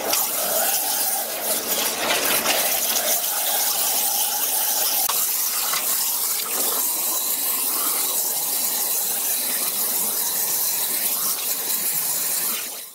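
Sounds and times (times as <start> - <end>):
waterjet cutting plastic plate: 0.0 - 12.9.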